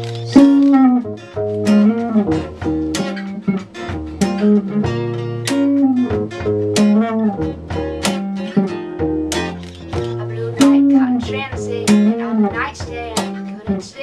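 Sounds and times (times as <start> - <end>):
bass line: 0.0 - 13.9
acoustic guitar picking: 0.0 - 14.0.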